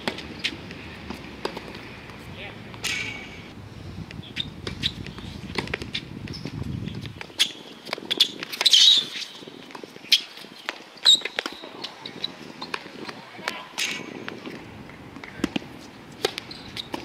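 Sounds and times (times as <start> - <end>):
rackets hitting tennis ball: 0.0 - 3.4, 4.6 - 17.0
shoes squeaking on court: 0.0 - 3.5, 4.2 - 17.0.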